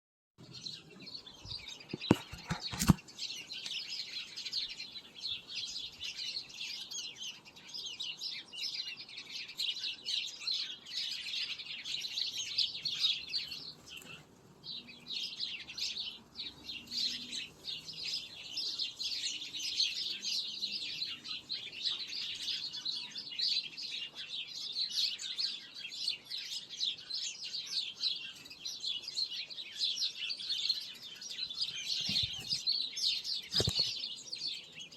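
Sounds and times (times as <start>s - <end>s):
small birds chirping: 0.4s - 34.9s.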